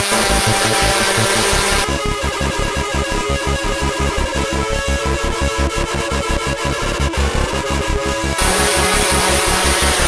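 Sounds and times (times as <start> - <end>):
electronic music with pulsing beat: 0.0 - 10.0.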